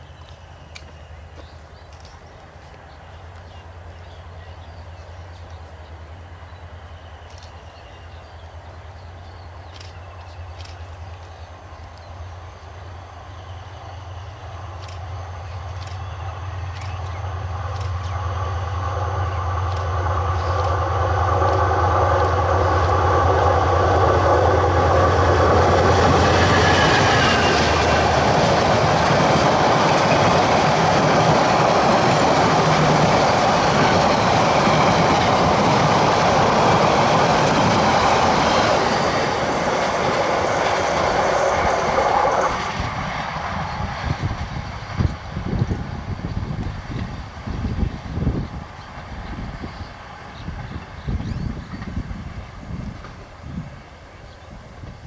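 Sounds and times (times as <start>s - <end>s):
diesel locomotive engine drone: 0.0s - 55.0s
train wheels on rails: 0.0s - 55.0s.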